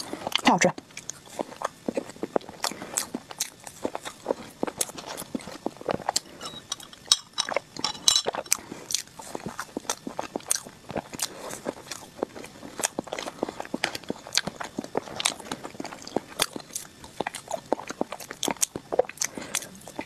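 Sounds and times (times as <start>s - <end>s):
person chewing with mouth clicks: 0.0s - 20.0s.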